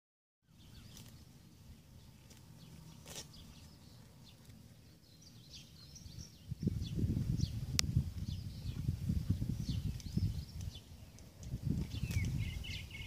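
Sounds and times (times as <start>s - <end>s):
songbirds chirping: 0.4s - 13.0s.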